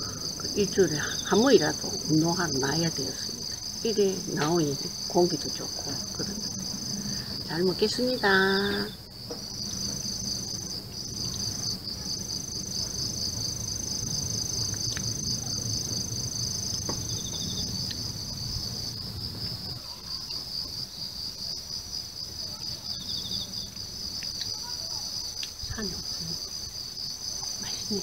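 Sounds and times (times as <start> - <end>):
insects pulsing chorus: 0.0 - 28.0
steady high insect tone: 0.0 - 28.0.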